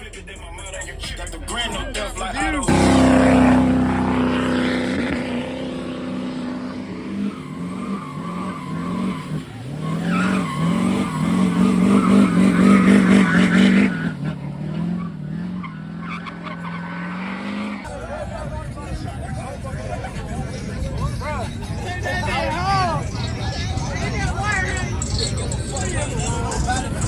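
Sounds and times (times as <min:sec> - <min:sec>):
tires spinning and squealing: 0:00.0 - 0:27.0
truck engine revving: 0:00.0 - 0:27.0.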